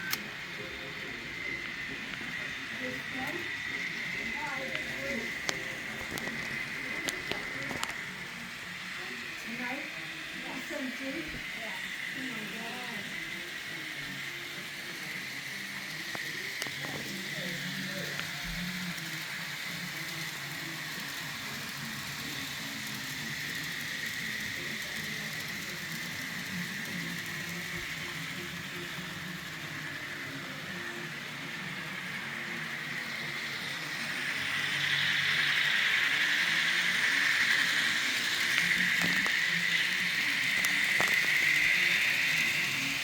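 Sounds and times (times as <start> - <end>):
model train motors whirring: 0.0 - 43.0.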